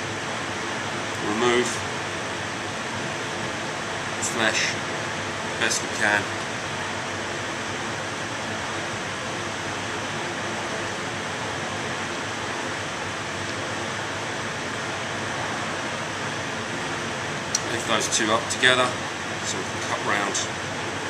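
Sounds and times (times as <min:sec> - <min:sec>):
ventilation fan hiss: 0:00.0 - 0:21.0.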